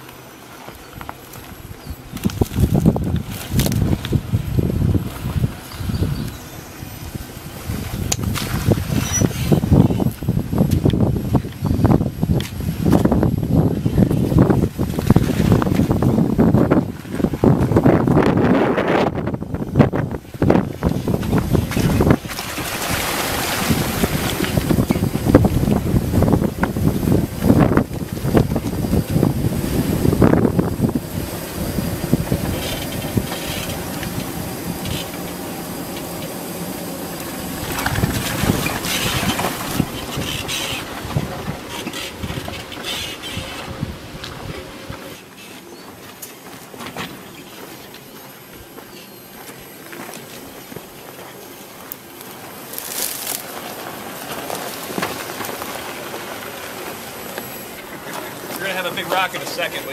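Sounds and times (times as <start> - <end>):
tyres rolling through mud and rocks: 0.0 - 59.9.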